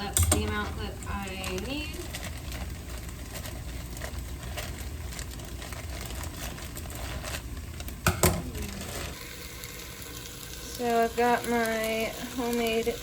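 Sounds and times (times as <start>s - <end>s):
faint crackles of cooking: 0.0s - 13.0s
low steady hum: 0.0s - 13.0s.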